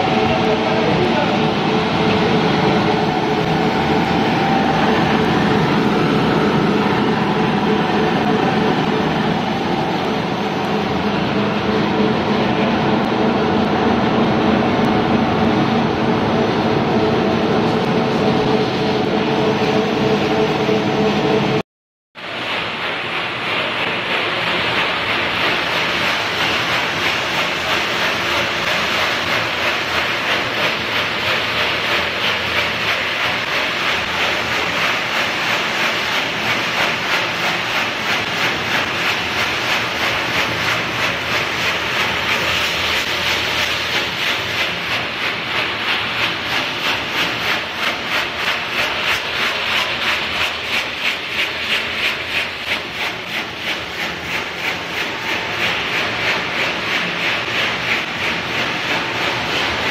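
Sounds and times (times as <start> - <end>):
fans and motors hissing: 0.0 - 21.6, 22.2 - 59.9
rhythmic machine pulsing: 0.0 - 21.6, 22.2 - 59.9.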